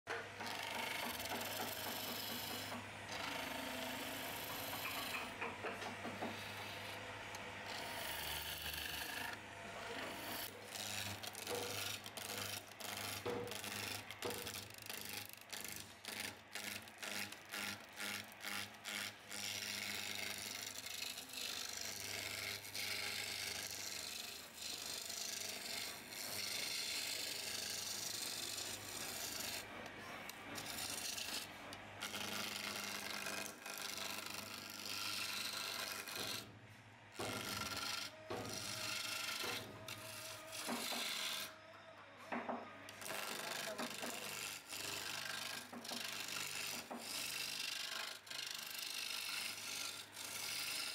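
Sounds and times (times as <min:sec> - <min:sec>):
chisel scraping wood on lathe: 0:00.1 - 0:36.5, 0:37.1 - 0:41.6, 0:42.3 - 0:50.9
lathe motor hum: 0:00.1 - 0:41.6, 0:42.3 - 0:50.9.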